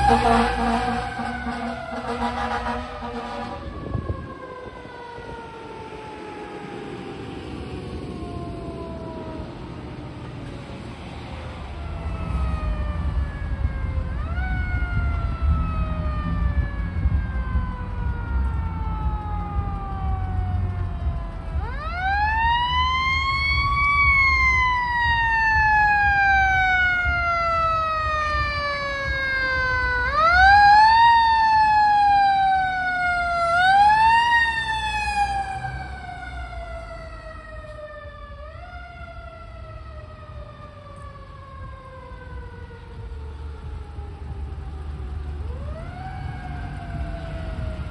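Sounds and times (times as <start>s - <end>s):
mechanical siren wailing: 0.0s - 10.3s, 11.6s - 47.9s
engine and traffic rumble: 0.0s - 47.9s.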